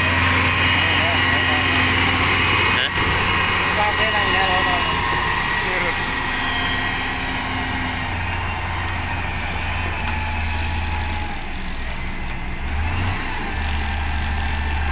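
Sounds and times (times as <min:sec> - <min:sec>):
heavy machine diesel engine: 0:00.0 - 0:14.9.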